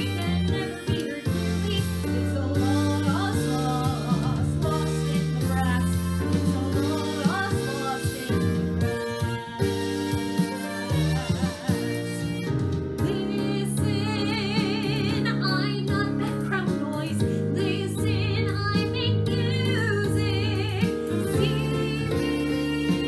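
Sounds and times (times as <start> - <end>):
instrumental accompaniment: 0.0 - 23.0
woman singing with vibrato: 0.0 - 23.0.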